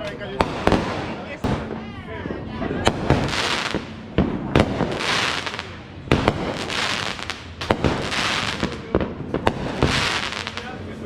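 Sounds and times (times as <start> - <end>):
fireworks crackling hiss: 0.0 - 1.8, 2.8 - 11.0
fireworks bangs: 0.0 - 2.0, 2.8 - 10.8.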